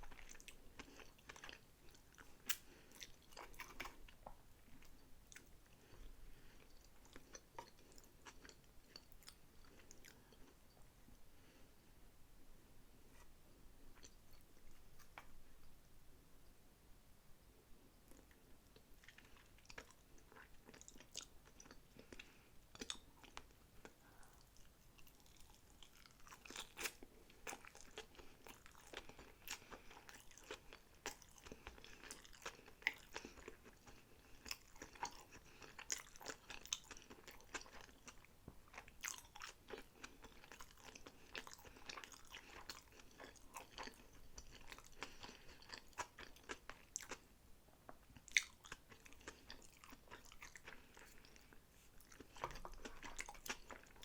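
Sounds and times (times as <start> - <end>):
chewing with wet mouth sounds: 0.0 - 10.8, 13.9 - 15.4, 18.1 - 47.3, 47.9 - 54.0.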